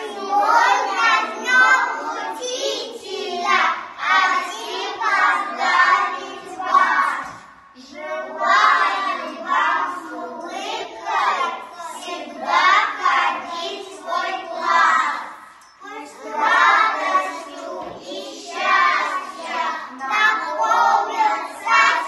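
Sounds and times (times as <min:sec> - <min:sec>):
young children singing: 0:00.0 - 0:22.0.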